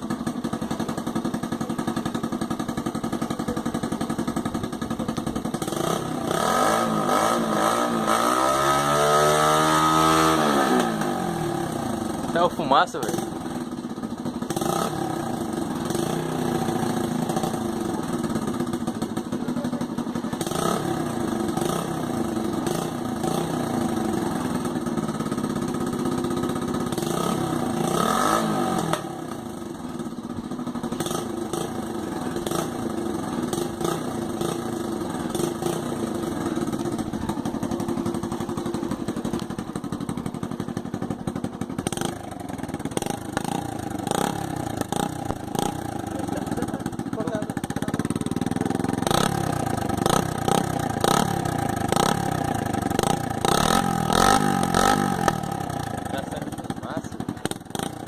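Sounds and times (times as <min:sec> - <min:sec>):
small motorcycle engine revving: 0:00.0 - 0:58.0.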